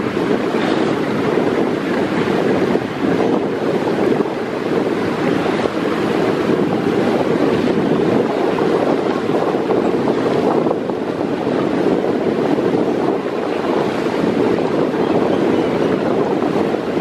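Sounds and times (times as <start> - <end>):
waves splashing: 0.0 - 17.0
wind buffeting microphone: 0.0 - 17.0.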